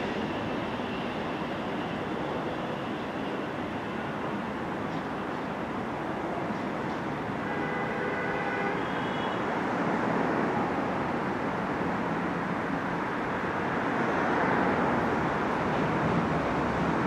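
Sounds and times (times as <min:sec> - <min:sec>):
train wheel and rail noise: 0:00.0 - 0:17.0.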